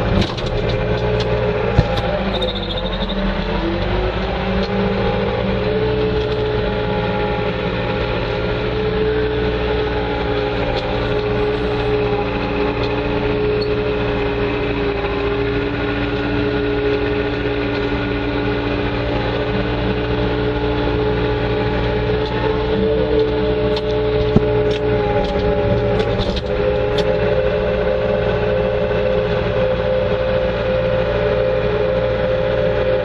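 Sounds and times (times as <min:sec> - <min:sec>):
loader engine running: 0:00.0 - 0:33.0.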